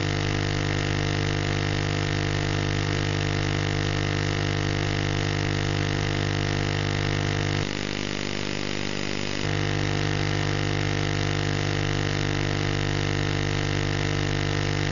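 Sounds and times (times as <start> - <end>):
buzzy tv signal hum: 0.0 - 14.9.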